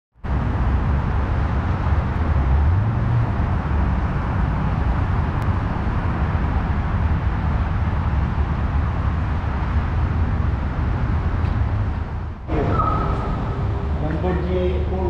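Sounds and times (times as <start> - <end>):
road traffic rumbling: 0.2 - 15.0
vehicle engine note rising: 0.2 - 15.0.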